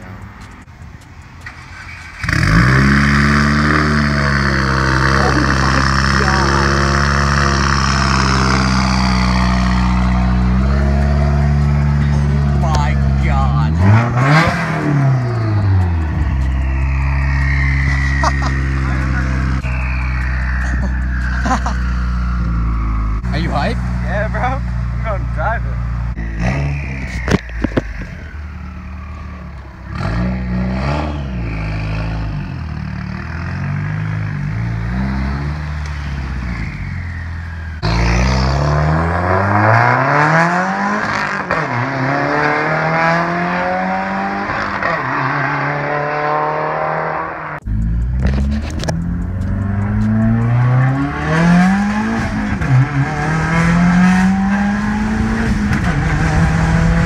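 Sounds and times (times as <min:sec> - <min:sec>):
car engine accelerating: 0:01.2 - 0:57.0.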